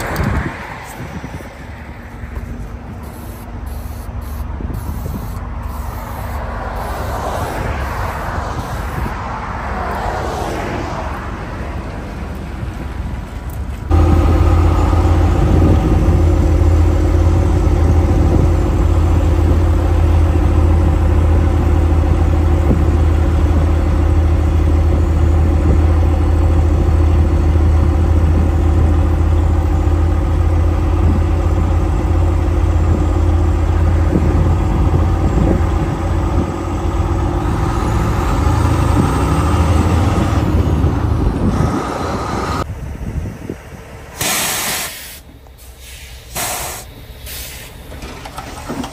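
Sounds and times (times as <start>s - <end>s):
diesel truck engine droning: 0.0s - 48.9s.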